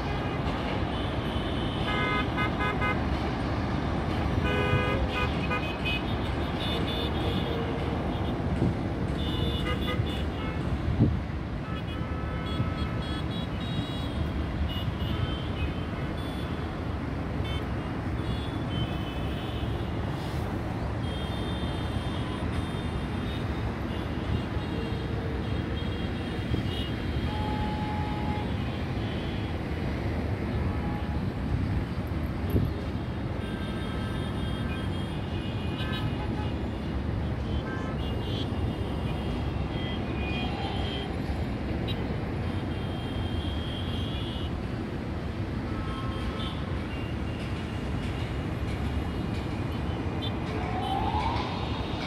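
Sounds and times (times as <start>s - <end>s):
road traffic noise: 0.0s - 52.0s.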